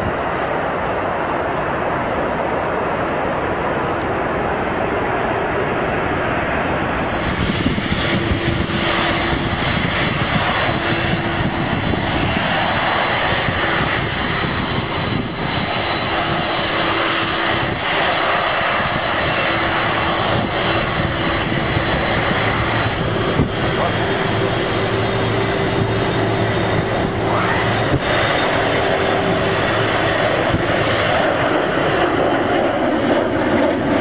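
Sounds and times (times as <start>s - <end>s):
airliner engines running: 0.0s - 34.0s
high engine whine: 0.0s - 34.0s.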